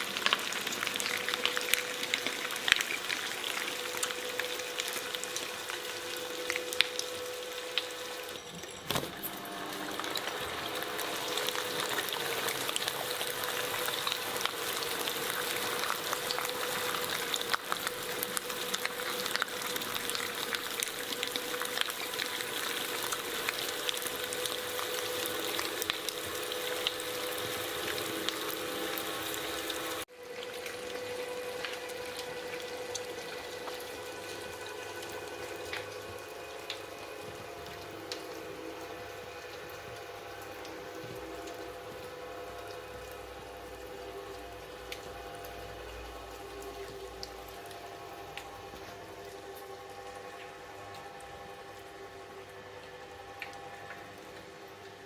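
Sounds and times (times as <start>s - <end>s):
shredder motor humming: 0.0s - 55.0s.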